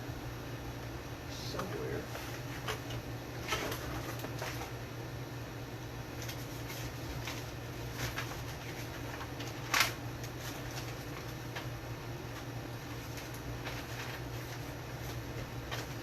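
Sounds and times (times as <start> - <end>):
low hum of room tone: 0.0 - 16.0.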